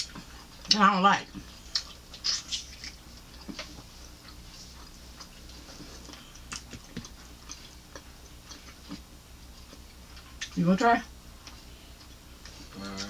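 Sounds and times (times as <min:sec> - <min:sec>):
soft chewing clicks: 0:00.0 - 0:10.6, 0:11.4 - 0:13.0.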